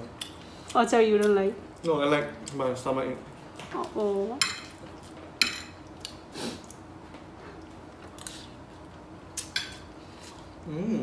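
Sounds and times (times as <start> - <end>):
soft eating noises: 0.0 - 11.0.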